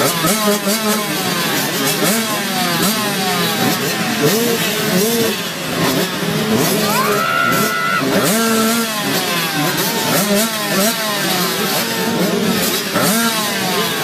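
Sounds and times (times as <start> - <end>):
motocross bikes revving: 0.0 - 14.0.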